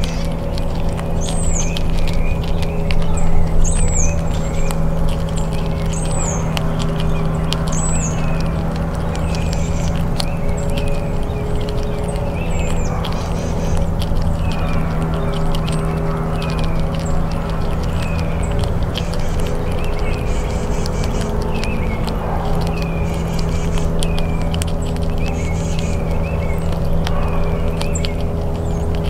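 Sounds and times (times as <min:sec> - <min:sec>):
squirrel chewing a nut: 0:00.0 - 0:29.0
steady low hum: 0:00.0 - 0:29.0.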